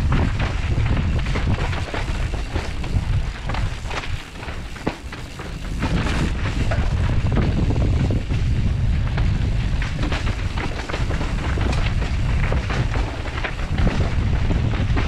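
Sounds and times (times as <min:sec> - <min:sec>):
bike tyres scrubbing over dirt: 0:00.0 - 0:15.0
knocks and rattles over rocks: 0:00.0 - 0:15.0
wind buffeting microphone: 0:00.0 - 0:15.0.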